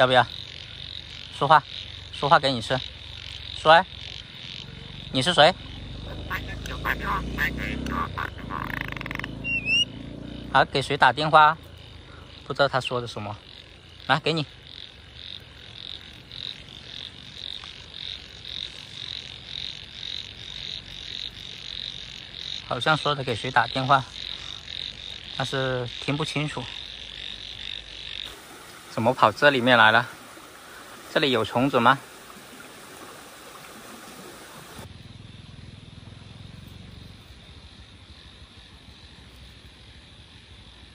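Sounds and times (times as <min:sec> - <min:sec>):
frogs calling: 0:00.0 - 0:40.9
outdoor field ambience hiss: 0:00.0 - 0:40.9.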